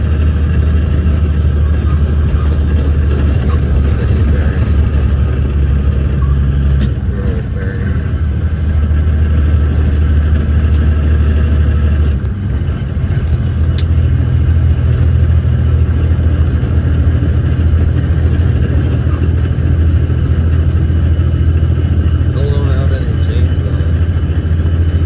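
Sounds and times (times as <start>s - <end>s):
truck diesel engine drone: 0.0s - 25.0s.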